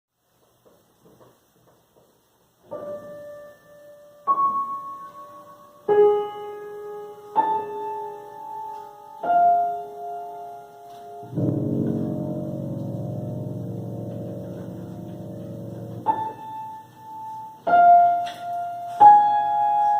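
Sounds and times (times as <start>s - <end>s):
piano playing slow melody: 2.6s - 19.9s.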